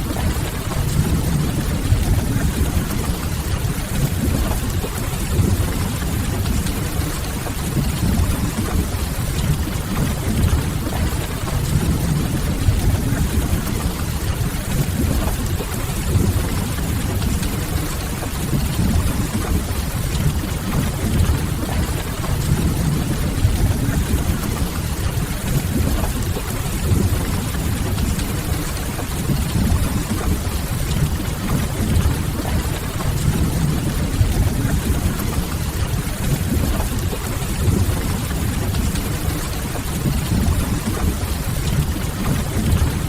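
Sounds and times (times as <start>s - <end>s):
rain on a window: 0.0s - 43.0s.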